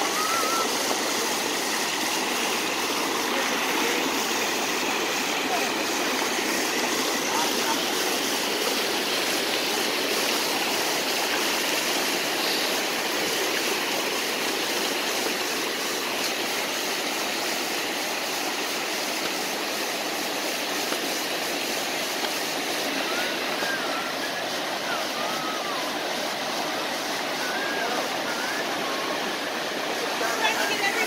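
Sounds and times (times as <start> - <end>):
creek rushing over rocks: 0.0 - 31.0.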